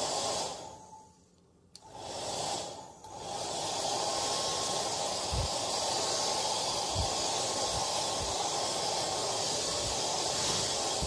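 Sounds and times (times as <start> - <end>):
hair dryer blowing: 0.0 - 0.8, 1.8 - 11.0.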